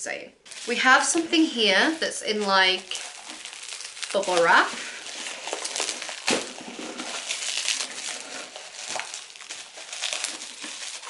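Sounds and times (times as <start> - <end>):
bubble wrap crackles: 0.4 - 11.0
bubble wrap crinkling: 0.4 - 11.0.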